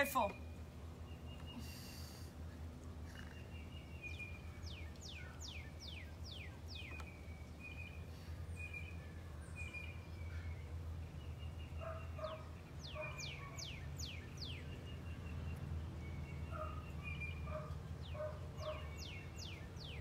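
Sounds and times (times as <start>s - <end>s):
steady low hum: 0.0s - 20.0s
bird chirps: 3.0s - 20.0s.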